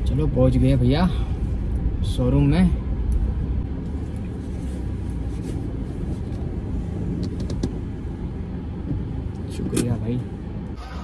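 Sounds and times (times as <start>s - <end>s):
car engine rumble from cabin: 0.0s - 11.0s.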